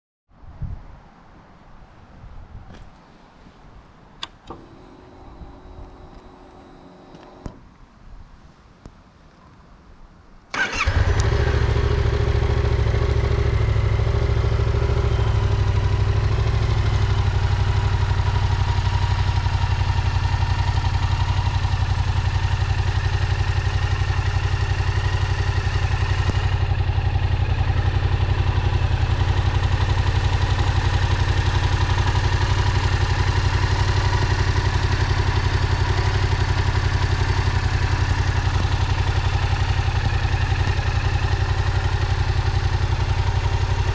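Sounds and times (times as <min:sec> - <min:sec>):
motorcycle engine starting and idling: 0:04.2 - 0:07.7, 0:10.5 - 0:43.9.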